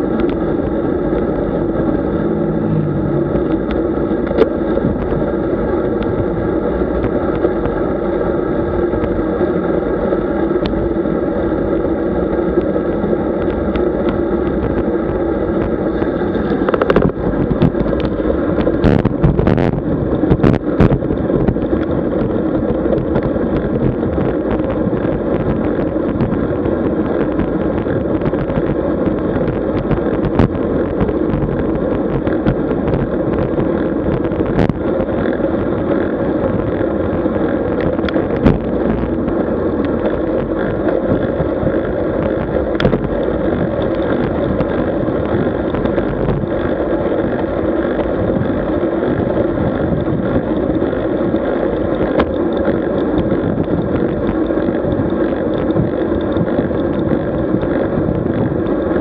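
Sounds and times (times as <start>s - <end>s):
droning hum: 0.0s - 59.0s
wind and road noise: 0.0s - 59.0s.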